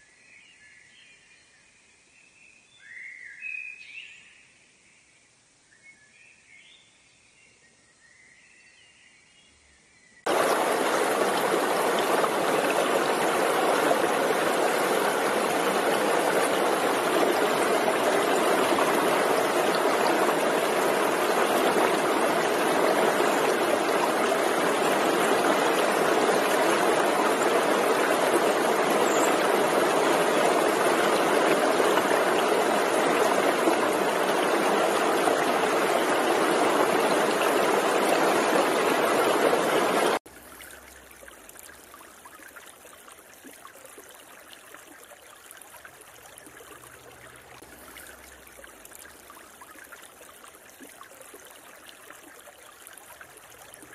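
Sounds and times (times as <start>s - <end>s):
gentle water flow: 10.2s - 53.9s
stream rushing over rocks: 10.3s - 53.9s.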